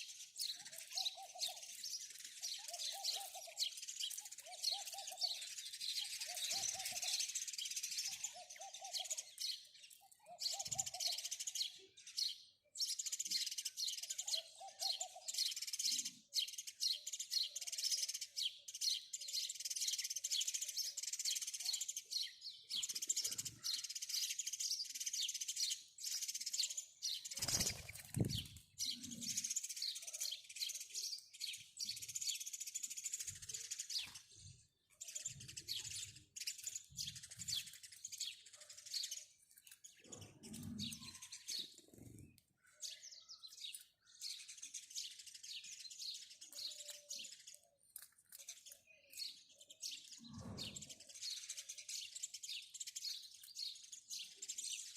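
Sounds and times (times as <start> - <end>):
sparrows chirping: 0.0 - 54.9.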